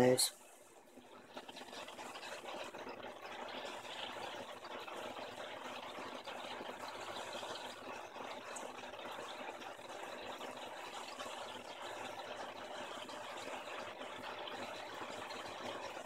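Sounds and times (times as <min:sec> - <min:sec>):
aquarium air bubbling: 0:00.0 - 0:16.0.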